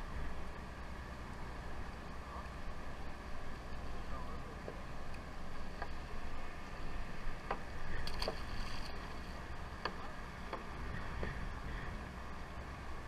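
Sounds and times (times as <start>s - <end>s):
boat engine rumble: 0.0s - 13.0s
water along hull: 0.0s - 13.0s.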